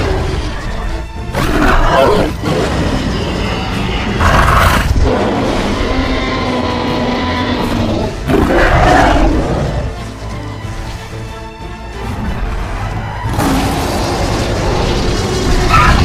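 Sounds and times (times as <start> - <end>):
dinosaur roars: 0.0 - 10.0, 12.0 - 16.0.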